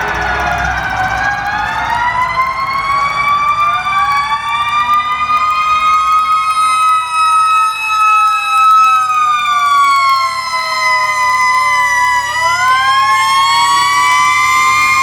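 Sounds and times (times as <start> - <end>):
fire truck sirens wailing: 0.0 - 15.0
truck engines rumbling: 0.0 - 15.0.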